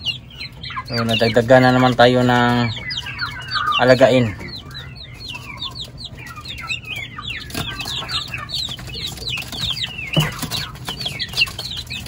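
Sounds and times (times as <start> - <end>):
poults peeping: 0.0 - 12.0.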